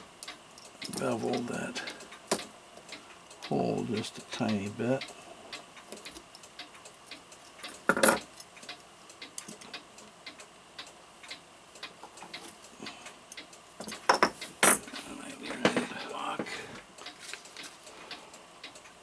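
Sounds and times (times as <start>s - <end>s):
mechanical clock ticking: 0.0s - 19.0s.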